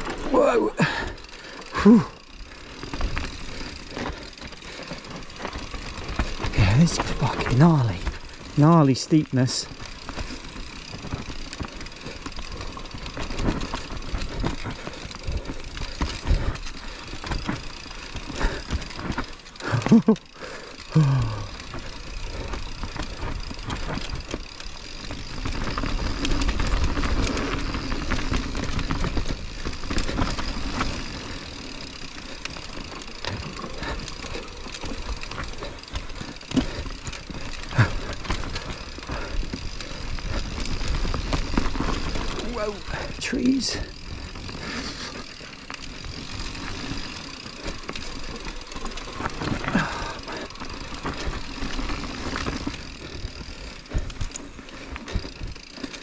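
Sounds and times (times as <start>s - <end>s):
bike rattling and knocks: 0.0s - 56.0s.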